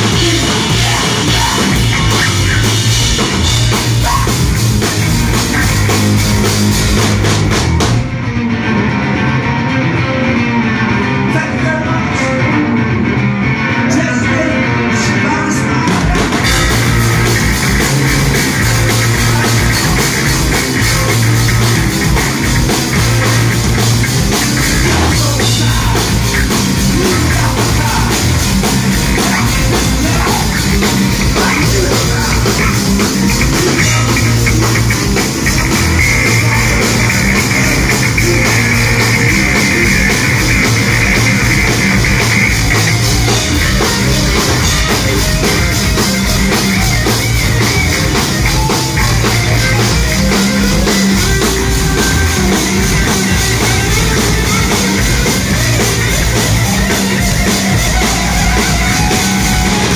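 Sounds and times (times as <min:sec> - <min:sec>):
drum kit with cymbals: 0:00.0 - 0:08.1, 0:15.8 - 0:59.9
bass guitar: 0:00.0 - 0:59.9
electric guitar: 0:00.0 - 0:59.9.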